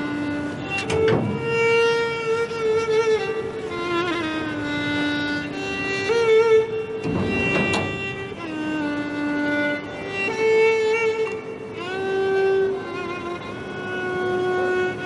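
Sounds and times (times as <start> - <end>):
string accompaniment: 0.0 - 15.0
violin holding long notes: 0.0 - 15.0.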